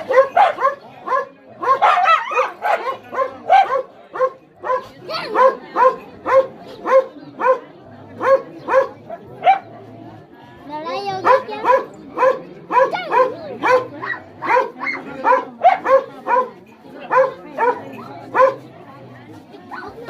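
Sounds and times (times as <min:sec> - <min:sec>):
dog barking: 0:00.0 - 0:07.6, 0:08.2 - 0:09.7, 0:11.2 - 0:18.6.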